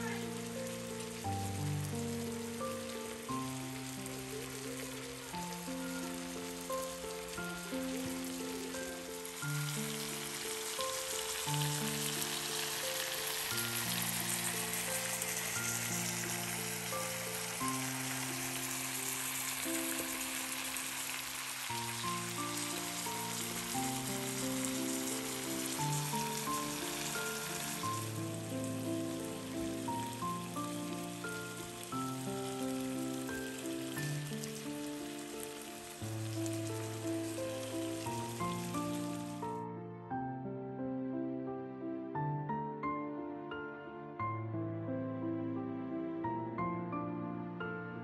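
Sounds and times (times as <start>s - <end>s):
food sizzling in a frying pan: 0.0s - 39.6s
background music: 0.0s - 48.0s.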